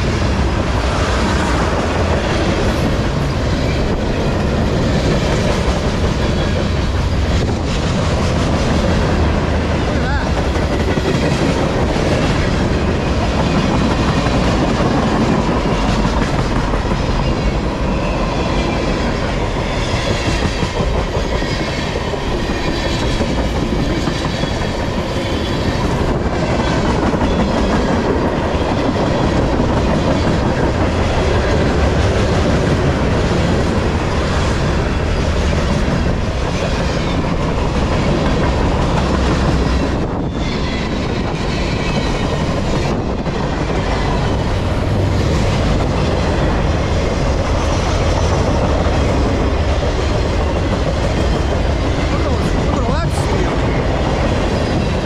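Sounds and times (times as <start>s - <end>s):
freight train wheels rolling: 0.0s - 55.0s.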